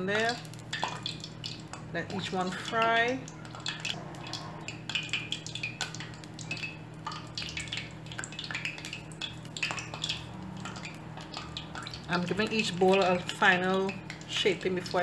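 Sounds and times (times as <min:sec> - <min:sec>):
dough deep-frying in oil: 0:00.0 - 0:15.0
low steady hum: 0:00.0 - 0:15.0.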